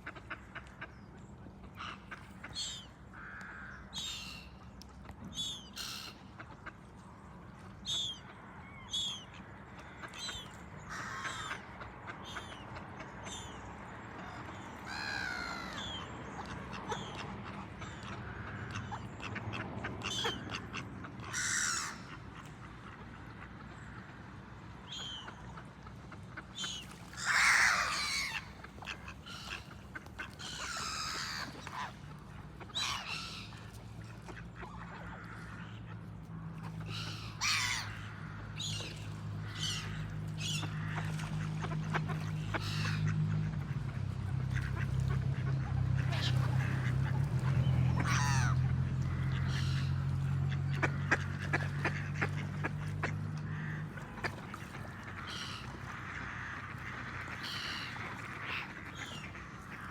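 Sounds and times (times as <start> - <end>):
ducks calling: 8.9 - 13.5, 14.2 - 24.1, 24.9 - 36.0, 36.6 - 59.9.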